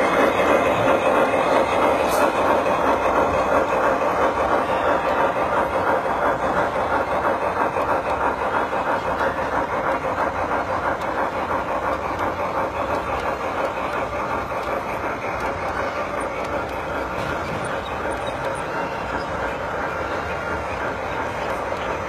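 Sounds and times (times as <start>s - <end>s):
fast wheel clicking: 0.0s - 22.0s
model train rolling on track: 0.0s - 22.0s.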